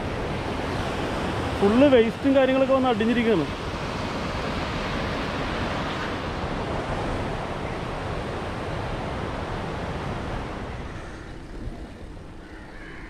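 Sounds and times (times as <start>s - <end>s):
surf breaking on shore: 0.0s - 12.3s
wind buffeting microphone: 0.0s - 12.6s.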